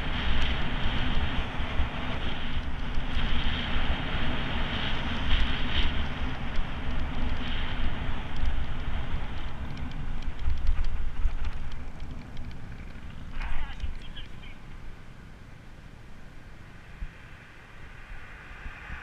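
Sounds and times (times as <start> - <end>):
rumble of riding over paving: 0.0 - 19.0
wind rushing across microphone: 0.0 - 19.0.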